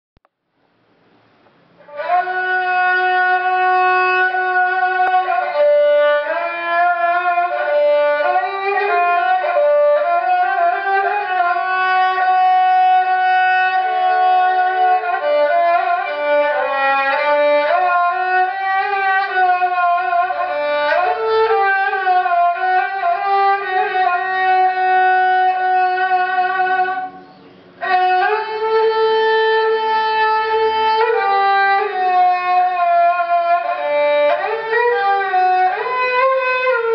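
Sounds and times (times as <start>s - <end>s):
bowed lyra melody: 1.8s - 36.9s.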